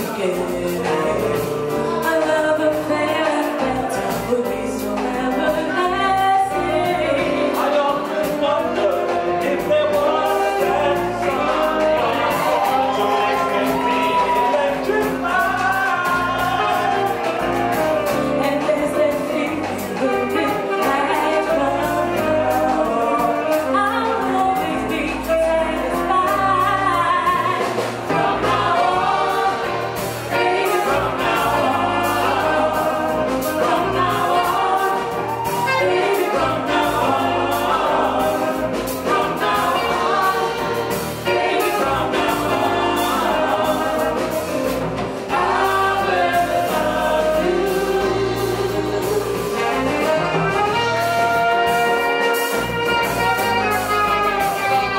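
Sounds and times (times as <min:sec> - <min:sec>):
woman singing: 0:00.0 - 0:29.7, 0:30.3 - 0:44.7, 0:45.3 - 0:54.9.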